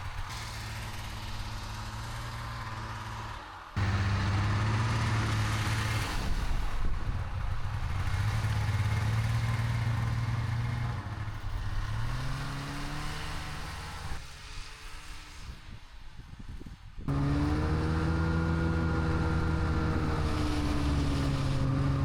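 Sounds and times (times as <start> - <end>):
snowmobile engine running: 0.0 - 14.3, 17.1 - 22.0.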